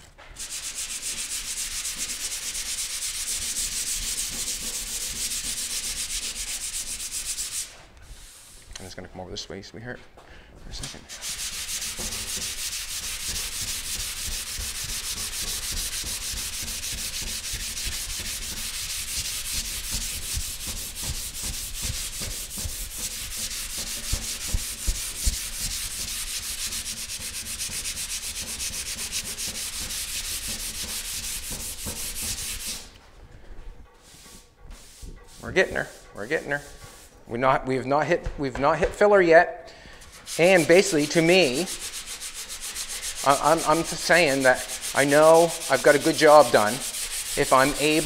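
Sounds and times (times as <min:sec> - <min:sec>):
sandpaper rubbing on metal panel: 0:00.4 - 0:08.5, 0:10.8 - 0:33.0, 0:34.0 - 0:37.2, 0:40.1 - 0:48.0.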